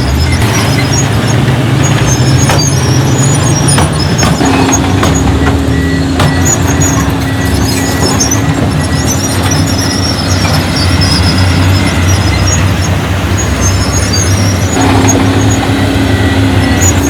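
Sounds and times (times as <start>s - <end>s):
bulldozer diesel engine running: 0.0s - 17.0s
second steady engine: 0.0s - 17.0s
steel tracks squeaking and clanking: 0.0s - 17.0s.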